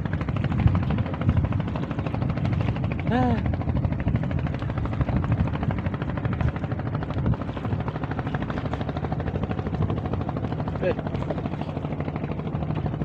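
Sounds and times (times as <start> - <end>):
boat engine puttering: 0.0 - 13.0.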